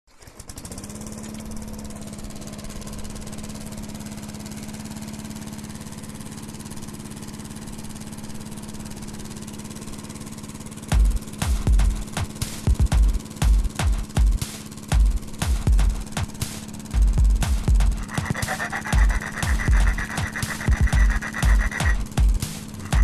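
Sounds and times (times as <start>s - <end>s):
lawn mower engine running: 0.1s - 23.0s.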